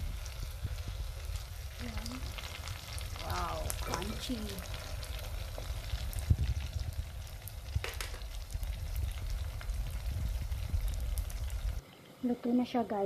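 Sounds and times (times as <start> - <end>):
spring rolls sizzling in oil: 0.0 - 11.8.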